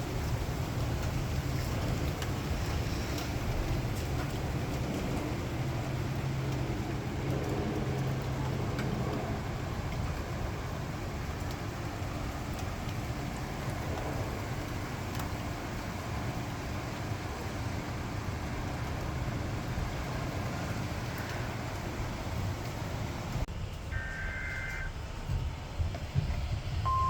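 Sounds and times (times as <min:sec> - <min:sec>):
heavy rain falling: 0:00.0 - 0:26.7.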